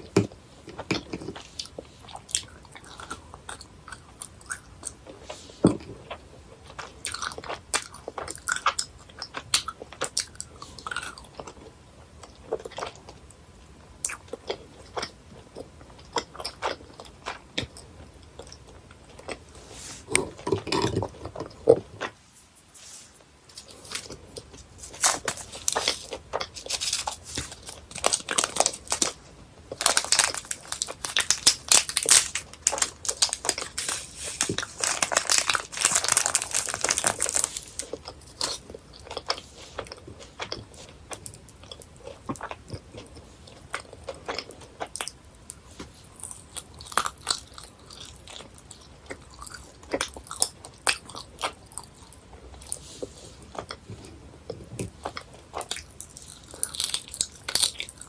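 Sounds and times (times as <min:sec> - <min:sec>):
chewing gummy candies: 0:00.0 - 0:13.4, 0:14.0 - 0:22.2, 0:23.5 - 0:58.0.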